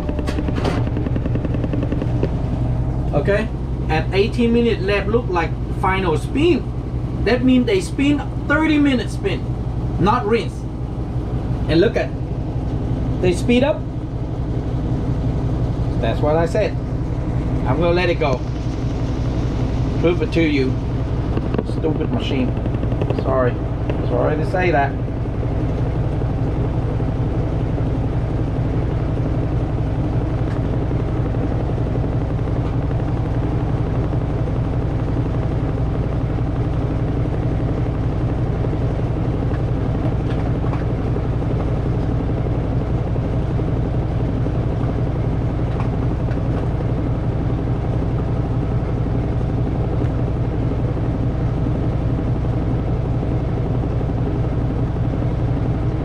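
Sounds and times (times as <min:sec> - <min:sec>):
washing machine drum spinning: 0:00.0 - 0:56.0.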